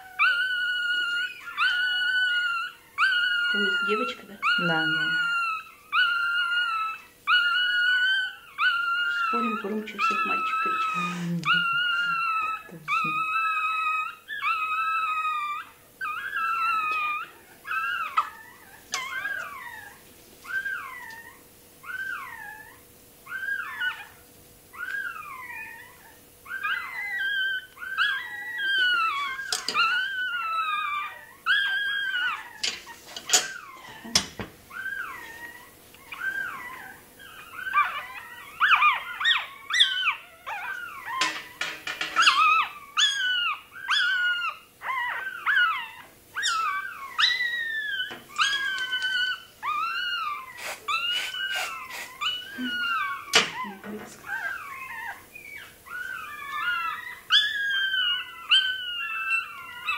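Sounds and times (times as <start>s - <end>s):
puppy crying high-pitched squeals: 0.0s - 34.0s, 34.7s - 59.9s.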